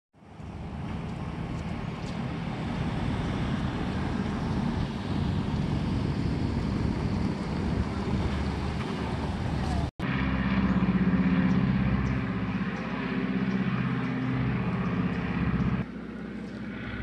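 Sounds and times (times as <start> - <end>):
outdoor ambient rumble: 0.2 - 17.0.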